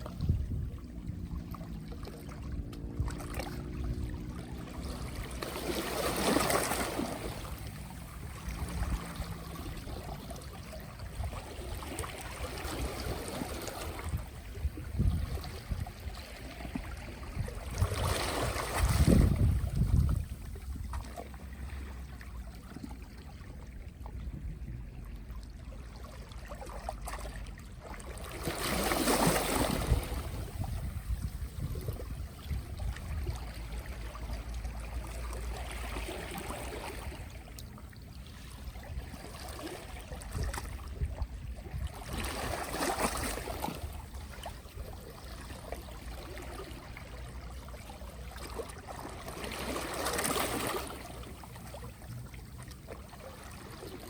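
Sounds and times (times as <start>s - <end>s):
gentle sea waves washing ashore: 0.0s - 54.0s.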